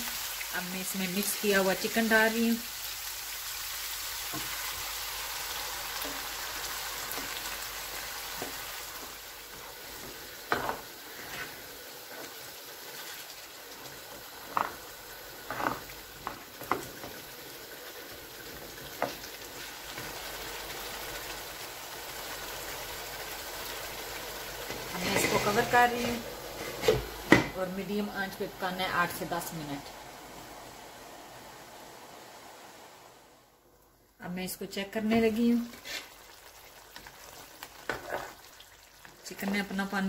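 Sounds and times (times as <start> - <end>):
chicken sizzling in hot oil: 0.0 - 33.2, 35.2 - 40.0.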